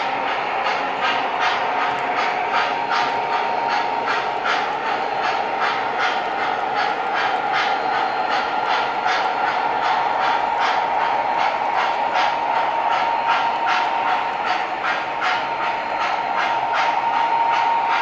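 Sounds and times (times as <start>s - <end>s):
model train running hum: 0.0s - 18.0s.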